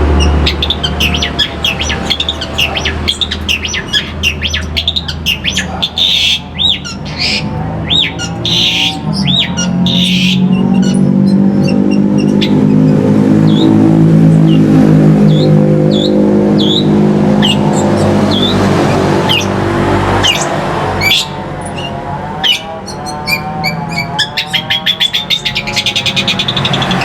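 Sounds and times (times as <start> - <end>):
loud steady low drone: 0.0 - 27.0
songbird chirping: 0.0 - 27.0.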